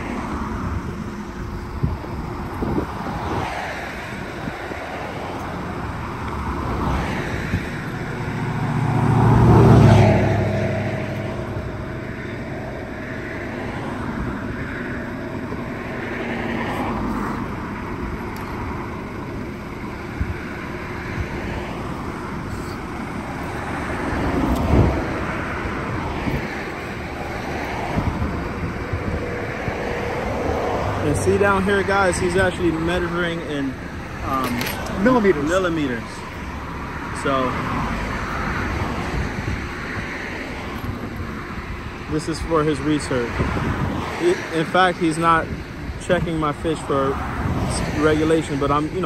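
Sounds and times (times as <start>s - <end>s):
road traffic passing: 0.0s - 49.0s
vehicle passing by loudly: 1.7s - 17.8s, 20.2s - 49.0s.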